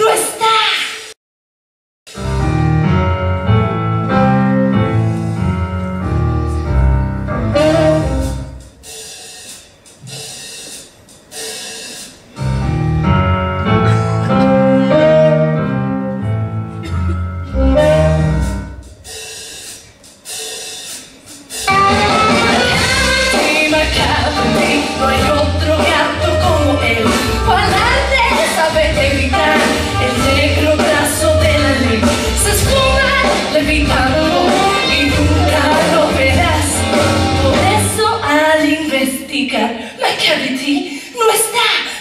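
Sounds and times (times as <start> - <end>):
jazzy big band dance music: 2.1 - 39.3.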